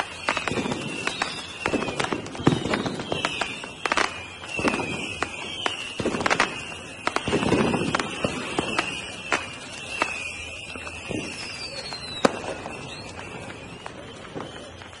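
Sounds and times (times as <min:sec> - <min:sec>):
descending firework whistles: 0:00.0 - 0:15.0
fireworks bangs and crackles: 0:00.0 - 0:15.0.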